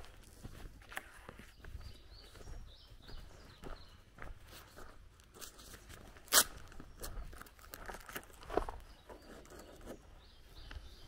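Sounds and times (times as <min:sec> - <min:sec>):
footsteps on gravel: 0:00.0 - 0:11.0.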